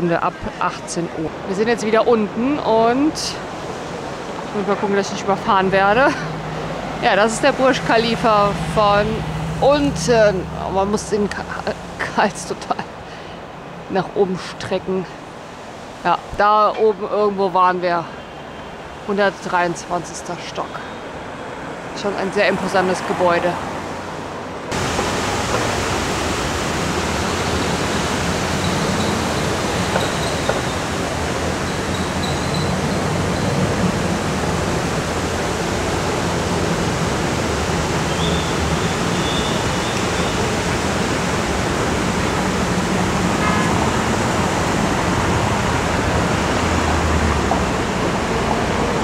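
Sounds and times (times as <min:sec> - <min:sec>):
cars passing: 0:00.0 - 0:49.0
steady rushing noise: 0:00.1 - 0:49.0.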